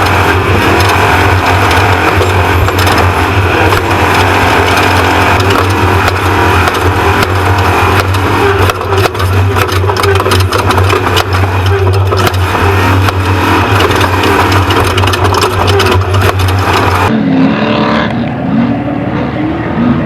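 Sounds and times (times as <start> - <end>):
rattles and knocks of bouncing truck: 0.0 - 17.1
truck engine droning: 0.0 - 20.0.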